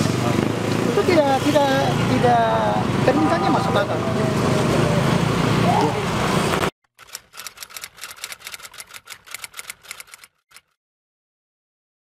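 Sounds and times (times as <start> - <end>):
street noise: 0.0 - 10.2.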